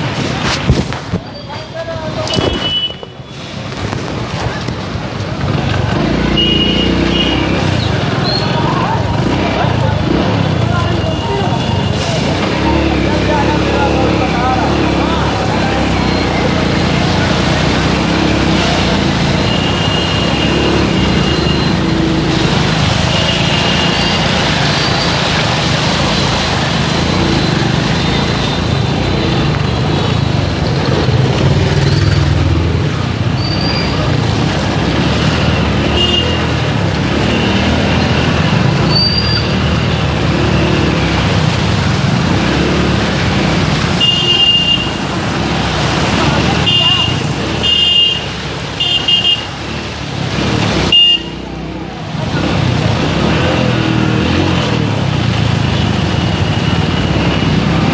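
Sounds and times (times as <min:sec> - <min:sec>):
vehicle engines running: 0:03.0 - 0:57.9.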